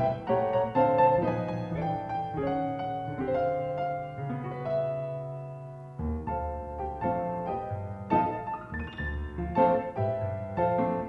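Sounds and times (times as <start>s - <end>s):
solo piano playing chords: 0.0s - 11.0s.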